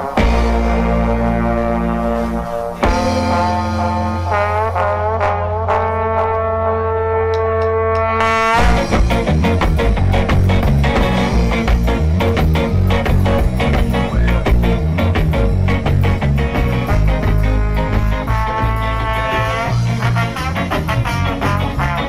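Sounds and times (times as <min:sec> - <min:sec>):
drums and full band: 0:00.0 - 0:22.0
held notes over low drone: 0:00.0 - 0:22.0.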